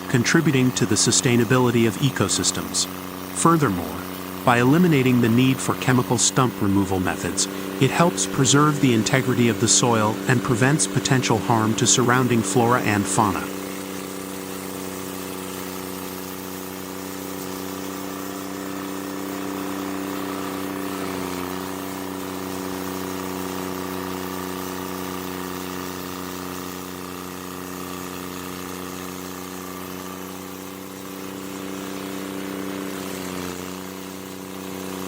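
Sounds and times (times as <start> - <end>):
stump grinder engine running: 0.0 - 35.0.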